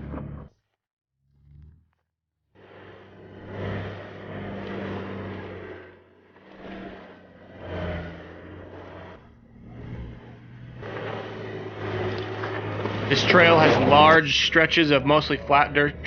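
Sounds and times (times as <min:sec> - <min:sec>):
off-road vehicle engine revving: 0:00.0 - 0:00.6, 0:01.3 - 0:02.0, 0:02.6 - 0:16.0.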